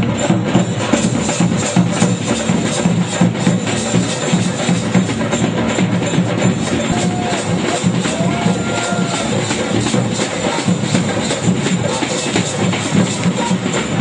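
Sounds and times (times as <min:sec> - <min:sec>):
drum troupe playing: 0:00.0 - 0:14.0.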